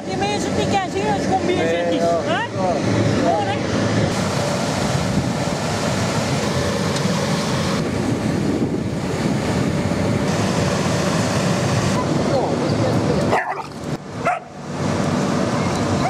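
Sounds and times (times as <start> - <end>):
car wash machinery rushing: 0.0 - 16.0.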